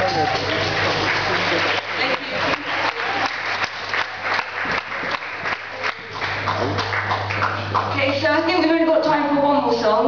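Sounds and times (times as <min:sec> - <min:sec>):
audience applauding: 0:00.0 - 0:08.3
low electrical hum: 0:00.0 - 0:10.0.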